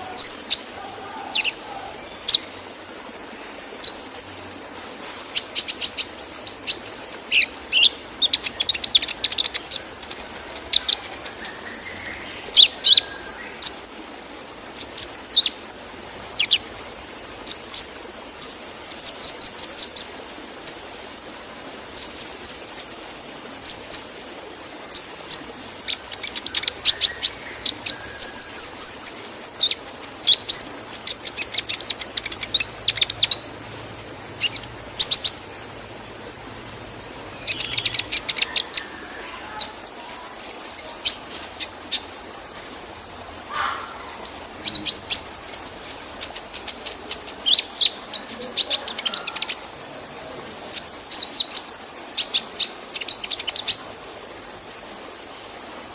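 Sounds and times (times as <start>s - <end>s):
sunbird singing chirps and trills: 0.0s - 24.2s, 24.8s - 55.5s
waterfall rushing: 0.0s - 55.9s.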